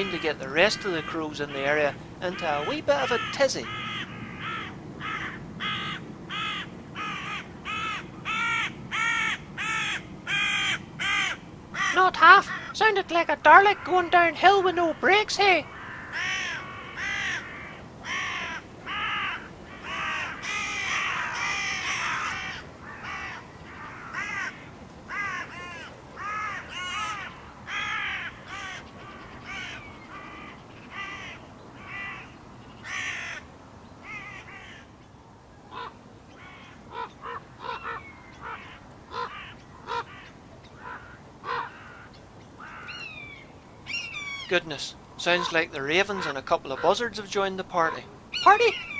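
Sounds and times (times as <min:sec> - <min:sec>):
crows cawing harshly: 0:00.0 - 0:12.9, 0:14.9 - 0:34.9, 0:35.7 - 0:44.6, 0:45.2 - 0:47.1
other bird calls: 0:00.0 - 0:48.9.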